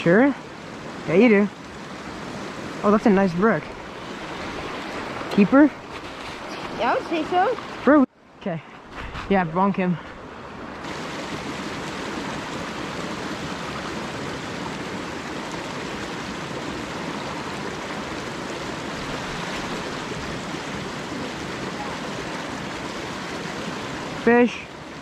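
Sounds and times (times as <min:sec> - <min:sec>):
creek water rushing into pool: 0:00.0 - 0:25.0.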